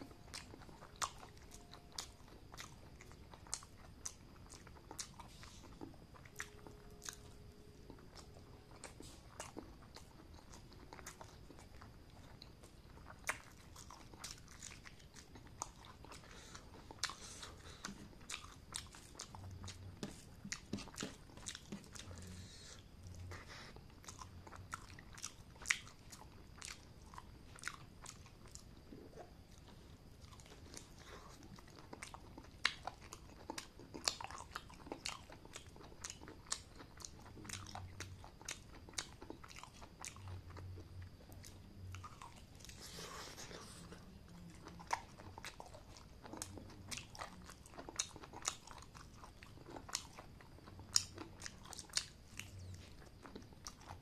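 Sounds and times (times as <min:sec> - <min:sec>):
wet chewing and lip smacking: 0:00.0 - 0:54.0.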